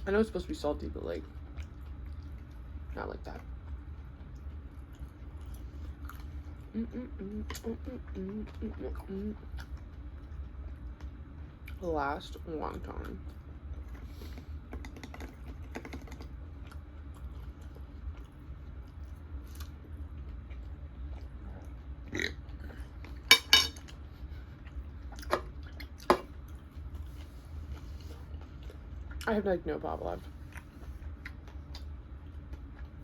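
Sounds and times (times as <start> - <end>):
chewing and crunching food: 0.0 - 33.0.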